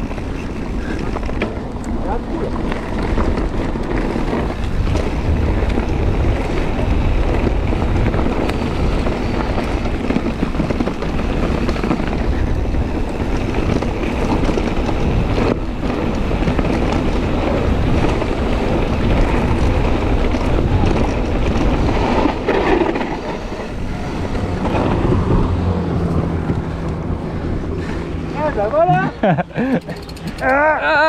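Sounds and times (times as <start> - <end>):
tyres rolling over dirt: 0.0 - 30.9
wind buffeting microphone: 0.0 - 30.9
bike rattling over bumps: 0.0 - 31.0.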